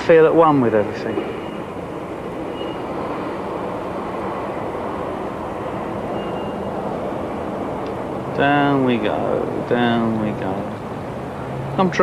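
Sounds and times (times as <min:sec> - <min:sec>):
low rushing background noise: 0:00.0 - 0:12.0.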